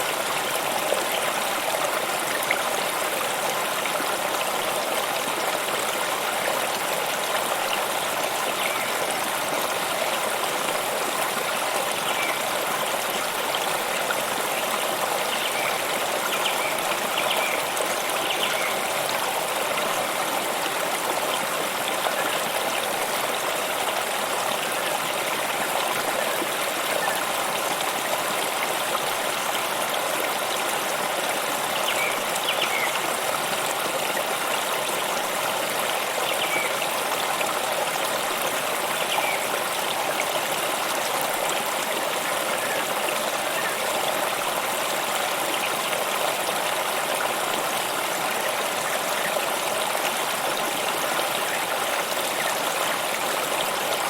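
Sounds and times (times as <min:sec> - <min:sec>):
stream of water trickling: 0:00.0 - 0:54.0.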